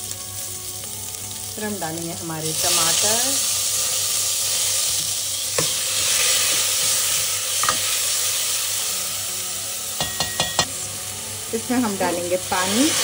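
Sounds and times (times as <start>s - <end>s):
onion and tomato sizzling in oil: 0.0s - 13.0s.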